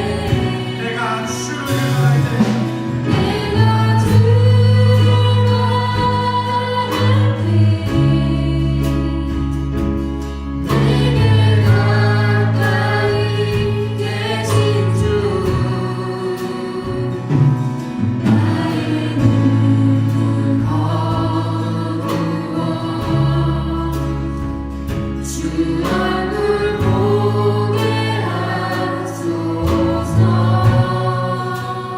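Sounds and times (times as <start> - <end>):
drum and cymbal hits: 0.0 - 8.3, 8.9 - 31.9
band singing gospel praise song: 0.0 - 31.9
sustained bass line: 0.0 - 31.9.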